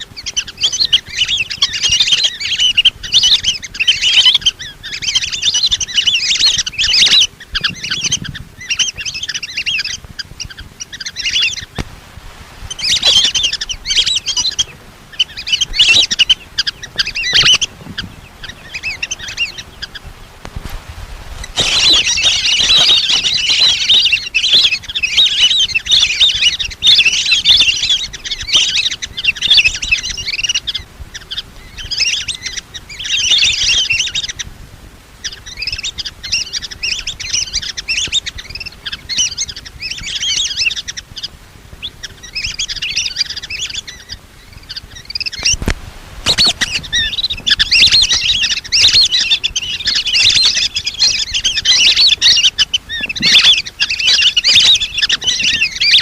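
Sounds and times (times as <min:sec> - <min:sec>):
ducks whistling calls: 0:00.0 - 0:56.0.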